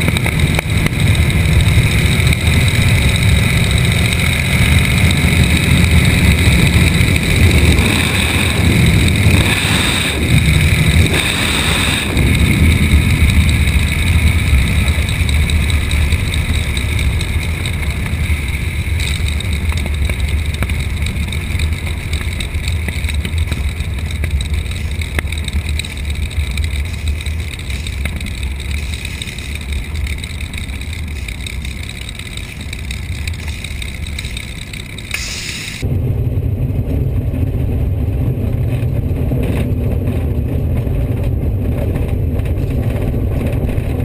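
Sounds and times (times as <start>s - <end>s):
aircraft engine rumble: 0.0s - 44.0s.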